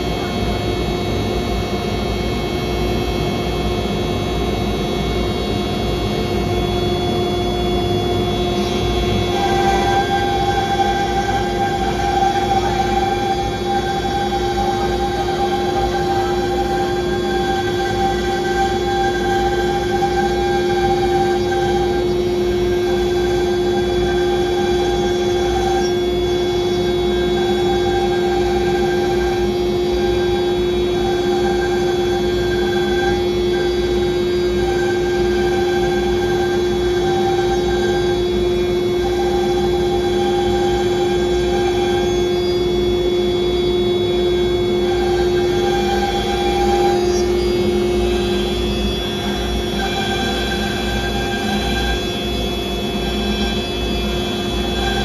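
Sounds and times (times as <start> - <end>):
cnc router spindle whine: 0.0 - 55.0.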